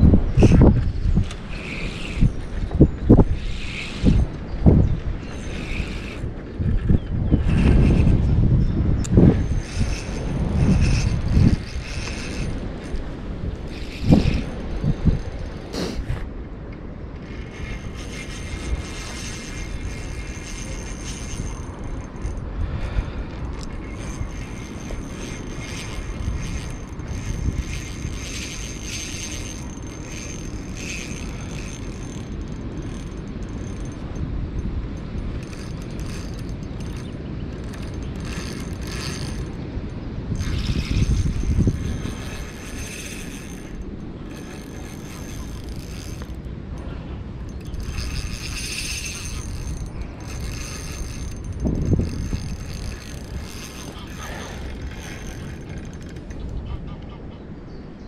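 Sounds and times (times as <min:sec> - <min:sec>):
spinning reel whirring: 0:00.0 - 0:16.3, 0:17.0 - 0:56.8
wind rumbling on microphone: 0:00.0 - 0:58.0.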